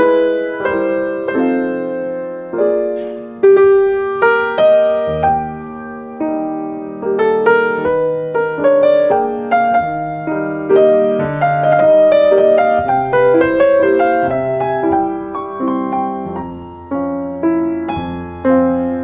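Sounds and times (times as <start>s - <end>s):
piano melody over chords: 0.0s - 19.0s.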